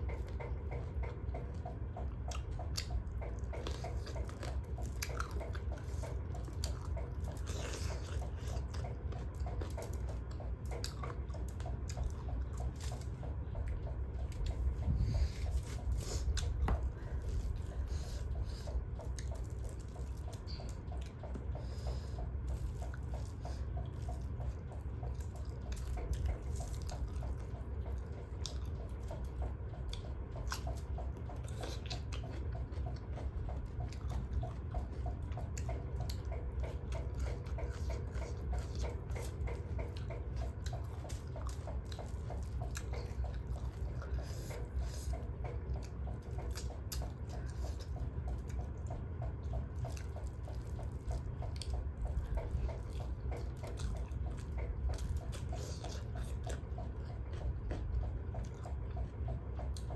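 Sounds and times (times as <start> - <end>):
steady low hum: 0.0 - 59.9
wet chewing and mouth smacking: 0.0 - 59.9.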